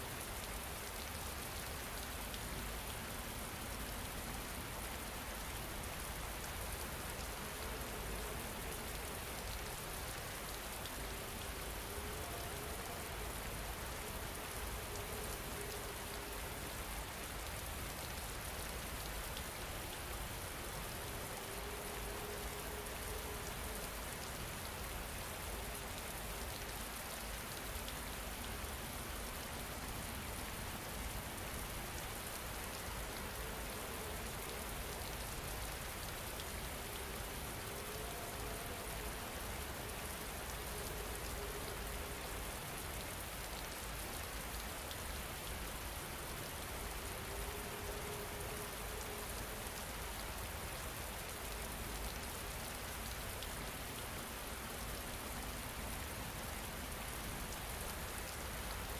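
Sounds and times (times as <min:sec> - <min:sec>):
rain hissing on a surface: 0:00.0 - 0:58.9.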